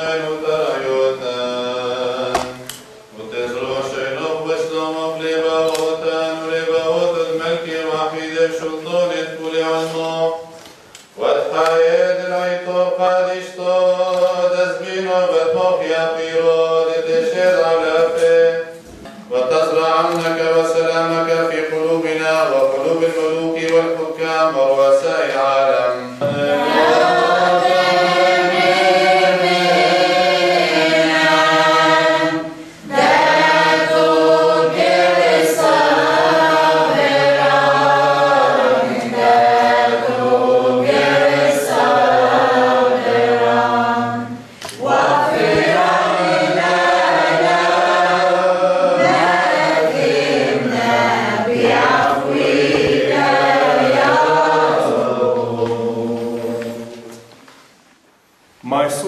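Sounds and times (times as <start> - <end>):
women's choir singing a hymn: 0.0 - 10.4, 11.2 - 57.3.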